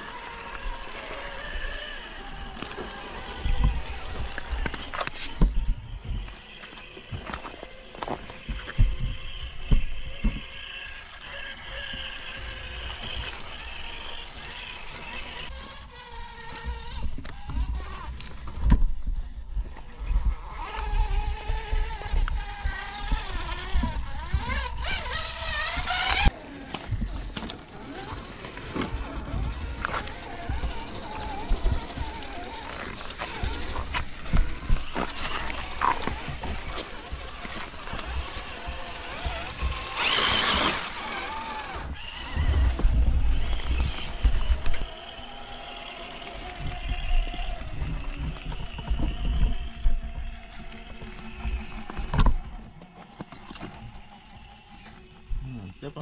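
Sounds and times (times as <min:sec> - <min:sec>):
rc car electric motor whining: 0:00.0 - 0:56.0.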